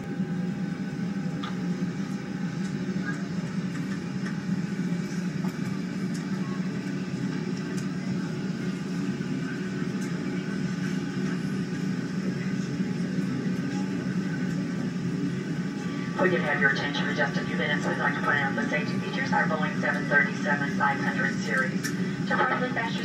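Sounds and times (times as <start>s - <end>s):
airliner cabin drone from speaker: 0.0s - 23.0s.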